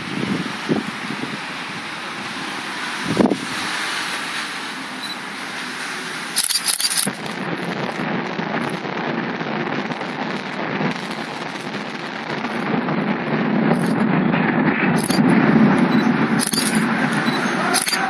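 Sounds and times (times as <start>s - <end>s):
distant crackling explosive blasts: 0.0s - 18.0s
rolling rumble: 0.0s - 18.0s.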